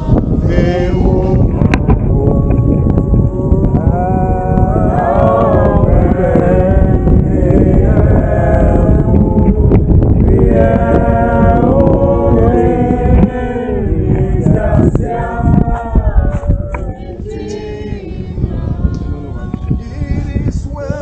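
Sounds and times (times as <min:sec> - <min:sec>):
group singing unaccompanied: 0:00.0 - 0:21.0
heavy low rumble: 0:00.0 - 0:21.0.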